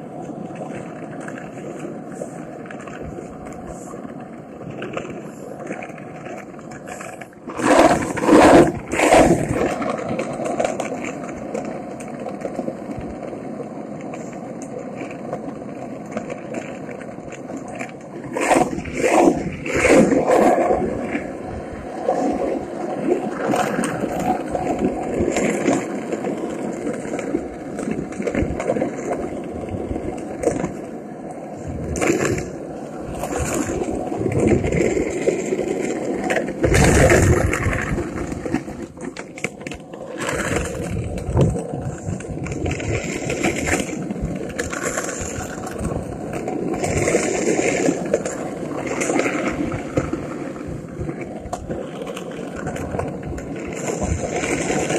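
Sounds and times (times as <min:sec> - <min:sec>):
skateboard clacks and knocks: 0:00.0 - 0:54.9
skateboard wheels rolling on asphalt: 0:00.0 - 0:54.9.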